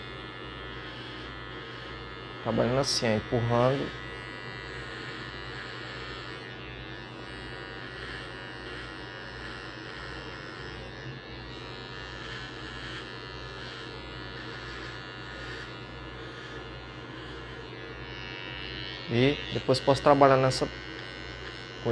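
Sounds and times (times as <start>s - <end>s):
electric trimmer buzzing: 0.0s - 21.9s.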